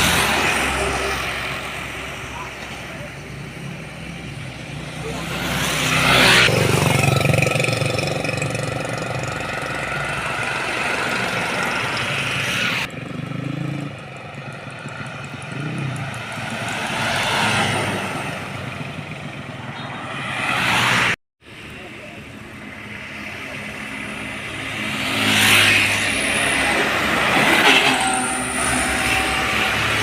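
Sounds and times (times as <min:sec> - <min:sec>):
heavy trucks passing: 0:00.0 - 0:30.0
vehicle noise: 0:00.0 - 0:30.0.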